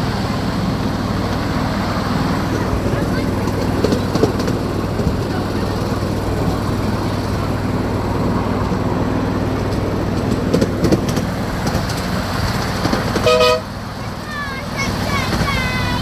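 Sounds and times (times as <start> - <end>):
toy train rumbling on track: 0.0 - 16.0.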